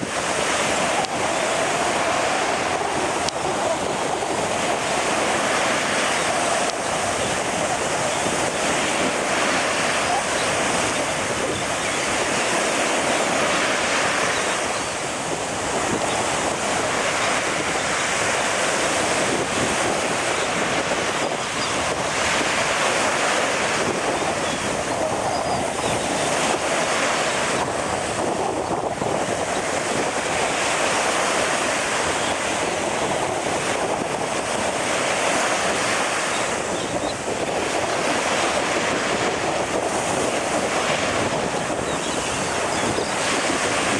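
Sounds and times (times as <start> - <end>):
ocean surf washing: 0.0 - 43.9
wind noise on microphone: 0.0 - 43.9.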